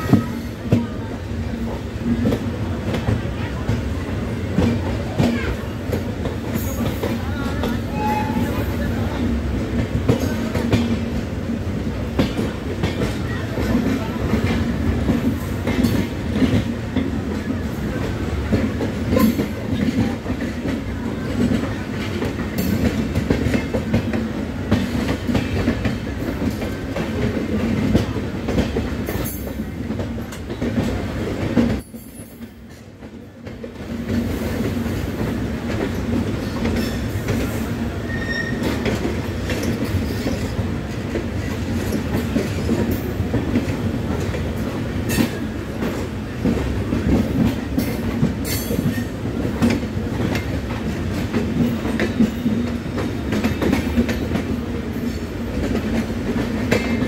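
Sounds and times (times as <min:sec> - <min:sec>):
passing express train: 0:00.0 - 0:57.0
train wheels rumbling on rails: 0:00.0 - 0:57.0.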